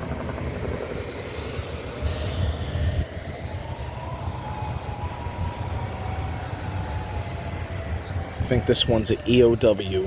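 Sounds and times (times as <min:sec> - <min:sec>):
steady low rumble: 0:00.0 - 0:09.2
distant warning siren wailing: 0:00.0 - 0:10.0.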